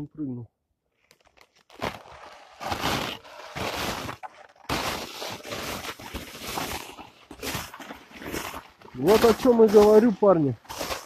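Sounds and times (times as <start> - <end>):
footsteps crunching frozen snow: 1.0 - 11.0.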